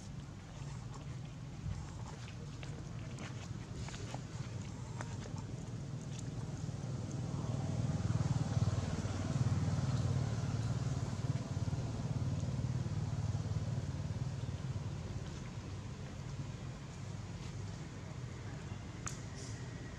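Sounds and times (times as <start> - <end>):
vehicle engine rumble: 0.0 - 19.9.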